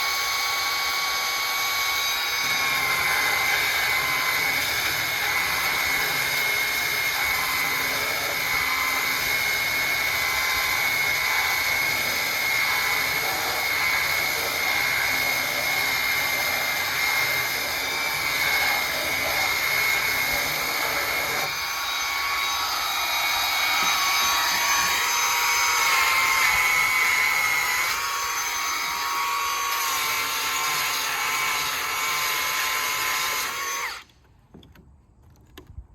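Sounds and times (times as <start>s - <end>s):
belt sander whining: 0.0s - 34.8s.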